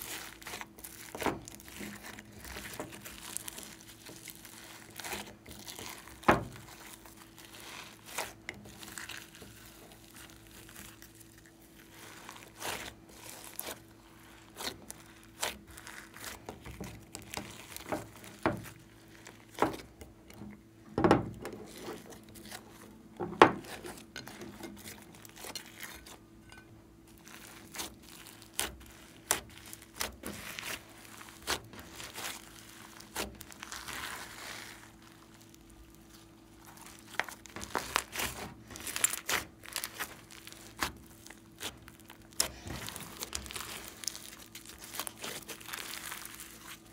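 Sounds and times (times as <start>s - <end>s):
slime squelching and popping: 0.0s - 20.0s, 27.1s - 46.9s.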